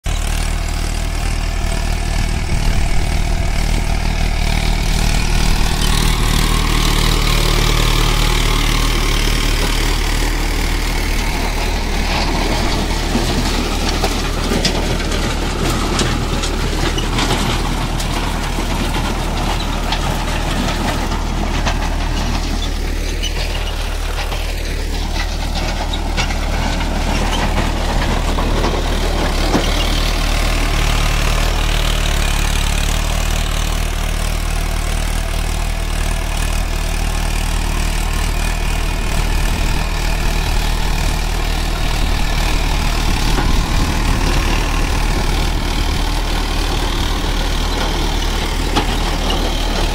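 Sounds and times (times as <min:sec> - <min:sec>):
tractor diesel engine running: 0:00.0 - 0:49.9
rotavator blades churning soil: 0:00.1 - 0:49.9.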